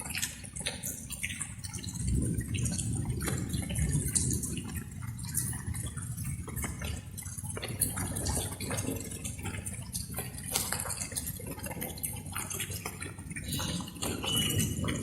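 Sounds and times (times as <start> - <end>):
light rain: 0.0 - 15.0.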